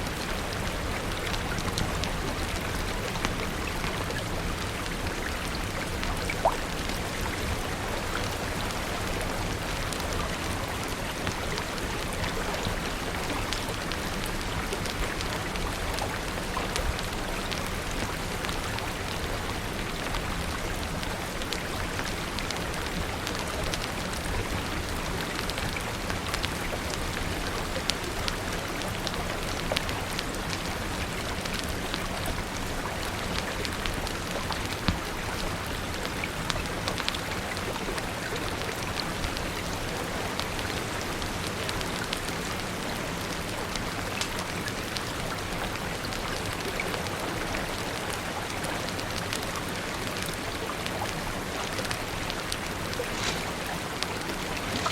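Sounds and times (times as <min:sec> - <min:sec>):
steady rain falling: 0:00.0 - 0:54.9
wood fire crackling: 0:00.0 - 0:54.9.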